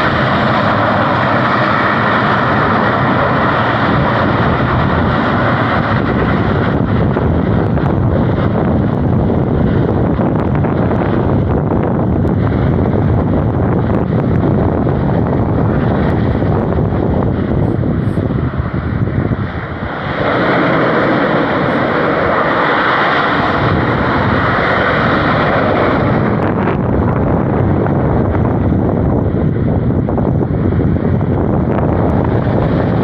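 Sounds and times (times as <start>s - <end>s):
volcano venting jet-like rushing: 0.0s - 33.0s
wind buffeting microphone: 0.0s - 33.0s.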